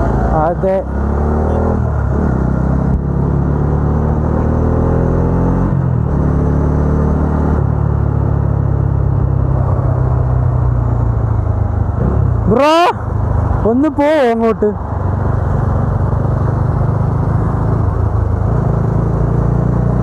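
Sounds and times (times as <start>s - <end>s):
motorcycle engine accelerating: 0.0s - 13.7s, 14.8s - 20.0s.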